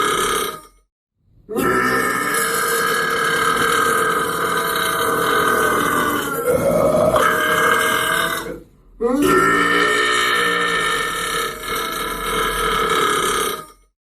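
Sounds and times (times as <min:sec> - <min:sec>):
man burping: 0:00.0 - 0:00.8, 0:01.5 - 0:13.9.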